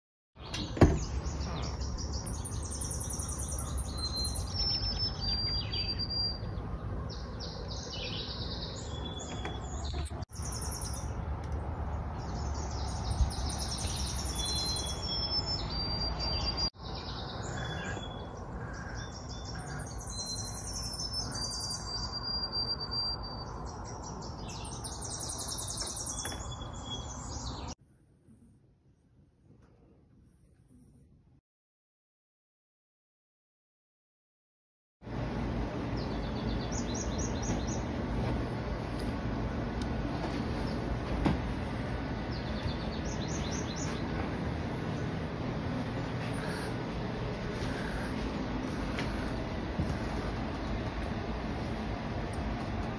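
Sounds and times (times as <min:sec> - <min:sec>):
songbirds singing: 0:00.4 - 0:27.8, 0:35.1 - 0:52.9.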